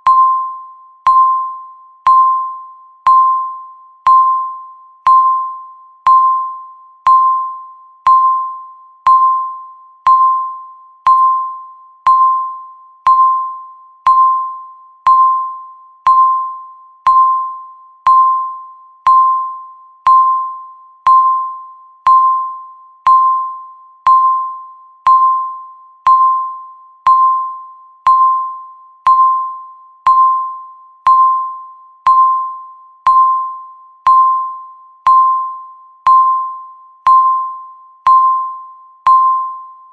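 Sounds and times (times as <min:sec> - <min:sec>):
countdown timer beep: 0:00.0 - 0:39.9.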